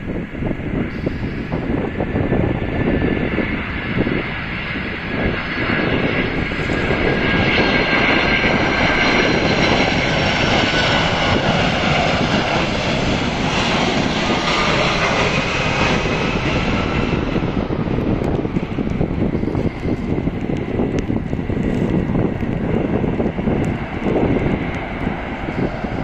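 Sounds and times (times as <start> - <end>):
high jet whine: 0.0 - 26.0
jet airliner passing overhead: 0.0 - 26.0.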